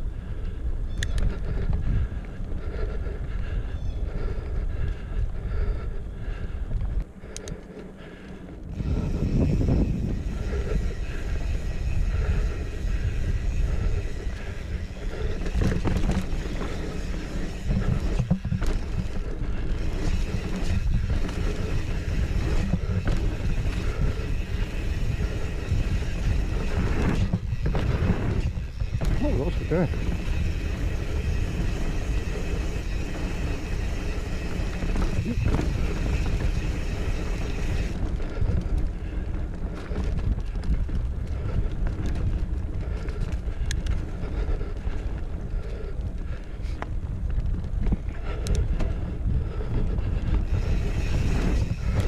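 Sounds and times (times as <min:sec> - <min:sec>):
tyres rolling on dirt: 0:08.5 - 0:52.0
wind on microphone: 0:08.6 - 0:52.0.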